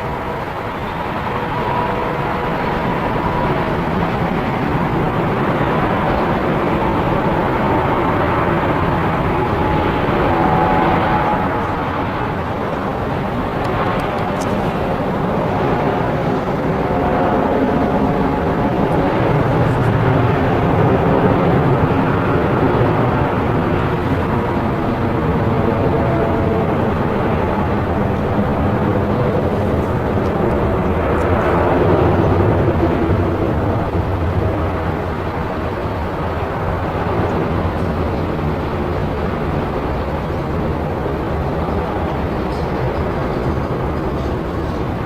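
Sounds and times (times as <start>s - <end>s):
aircraft engine drone: 0.0s - 45.0s.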